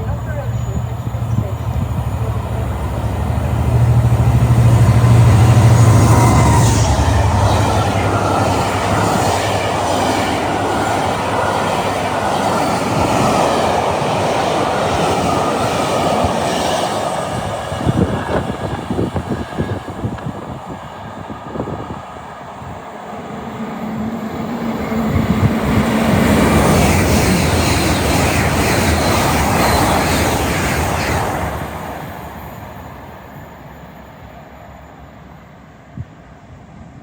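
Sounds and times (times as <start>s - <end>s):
train passing at speed: 0.0s - 37.0s.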